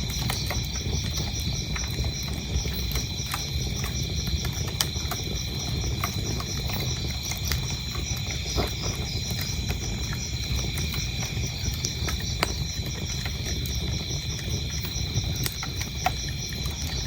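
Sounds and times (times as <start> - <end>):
crickets chirping: 0.0 - 17.0
wood fire crackling and popping: 0.0 - 17.0.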